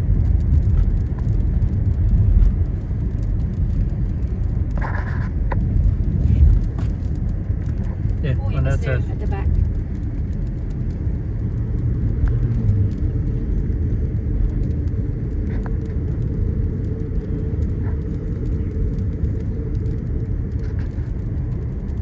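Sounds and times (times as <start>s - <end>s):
car road rumble from inside: 0.0s - 22.0s.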